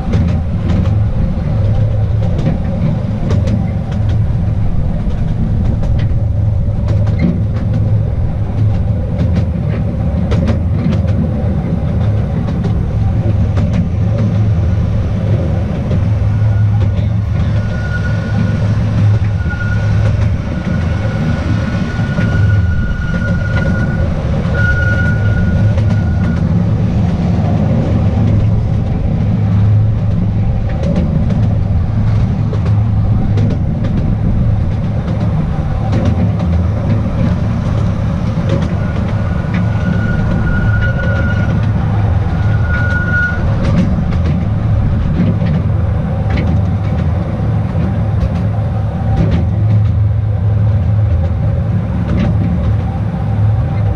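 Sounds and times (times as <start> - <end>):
train rumbling along track: 0.0 - 53.9
wheels clicking over rails: 0.0 - 53.9.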